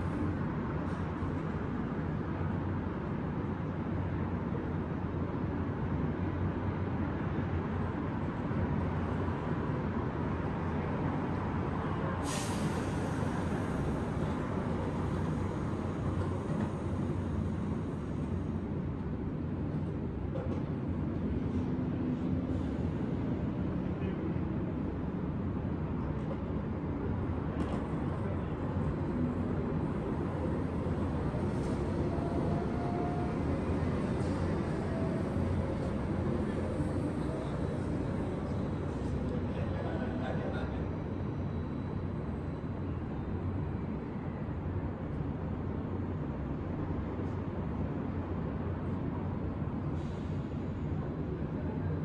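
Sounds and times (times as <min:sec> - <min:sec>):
city traffic rumble: 0:00.0 - 0:52.0.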